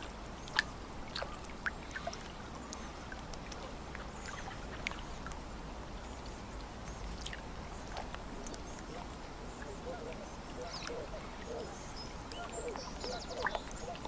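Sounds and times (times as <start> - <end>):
water lapping at shore: 0.0 - 14.0
water splashes and drips: 0.0 - 14.0.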